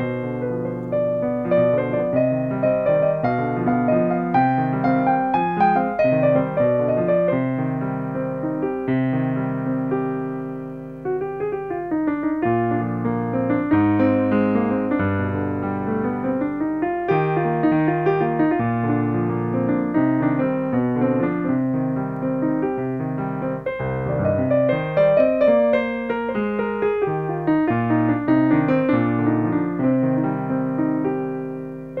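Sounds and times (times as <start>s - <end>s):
solo piano music: 0.0s - 32.0s.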